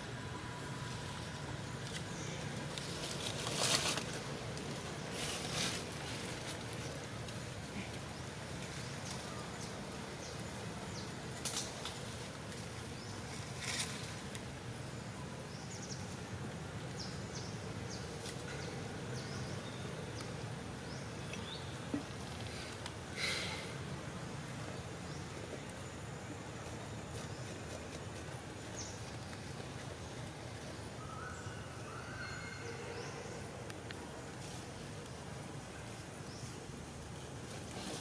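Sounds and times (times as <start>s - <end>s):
steady hiss: 0.0s - 38.0s.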